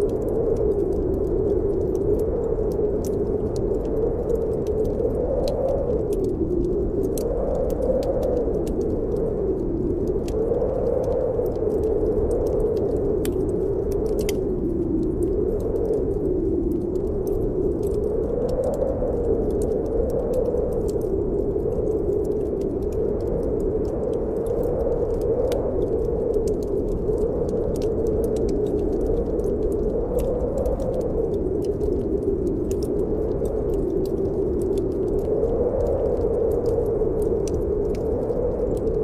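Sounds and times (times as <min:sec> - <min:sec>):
howling snowstorm wind: 0:00.0 - 0:39.0
wood fire crackling and popping: 0:00.0 - 0:39.0.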